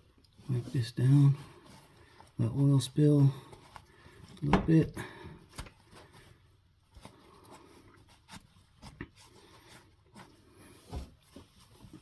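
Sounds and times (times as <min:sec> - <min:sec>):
soft rubbing: 0:00.0 - 0:12.0.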